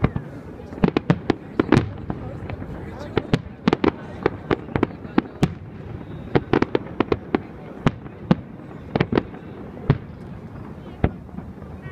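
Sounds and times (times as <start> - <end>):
fireworks bursting: 0.0 - 11.9.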